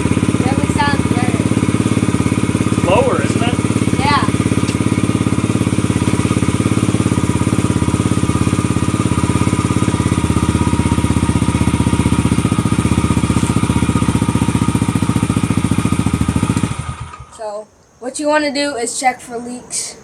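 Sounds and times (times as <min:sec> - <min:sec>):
motorbike engine idling: 0:00.0 - 0:17.4.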